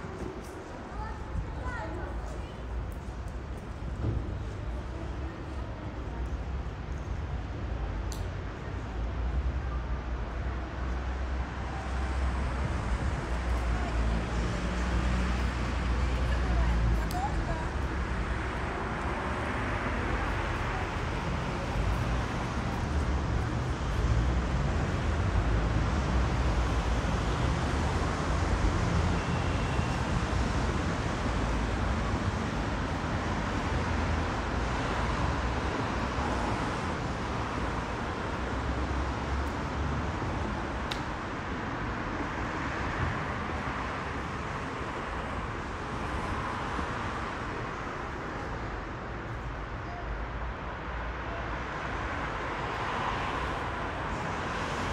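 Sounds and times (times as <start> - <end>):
rumble of passing cars: 0.0 - 54.9.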